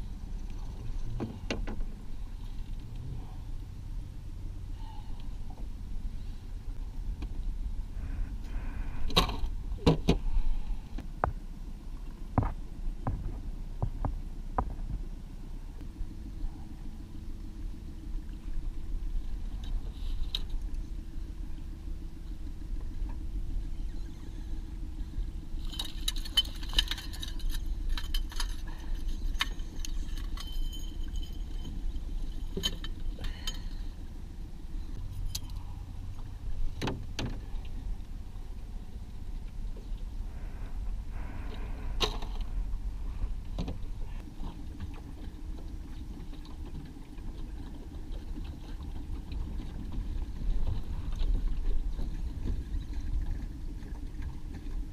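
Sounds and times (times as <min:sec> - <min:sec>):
boat motor humming: 0:00.0 - 0:54.9.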